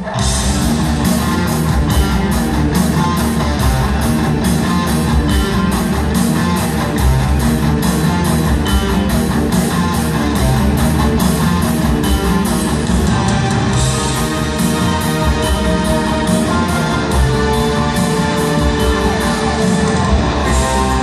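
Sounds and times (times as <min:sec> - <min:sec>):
loud electric guitars: 0:00.0 - 0:21.0
steady drum beat: 0:00.0 - 0:21.0.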